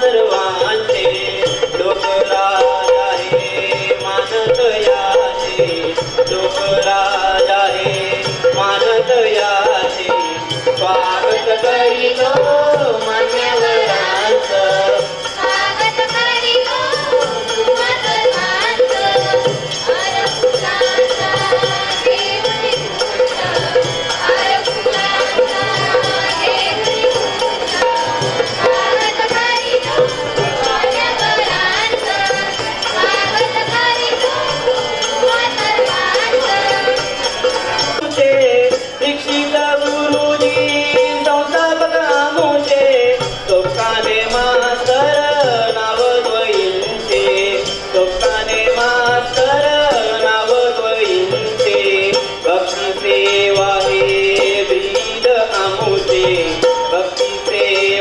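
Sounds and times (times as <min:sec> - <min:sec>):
group singing through microphones: 0:00.0 - 0:58.0
jingling percussion: 0:00.0 - 0:58.0.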